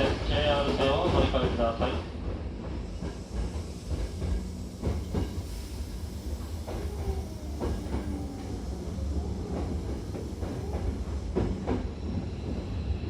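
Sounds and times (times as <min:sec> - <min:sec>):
train clunks: 0:00.0 - 0:12.8
train rumbling inside car: 0:00.0 - 0:13.0.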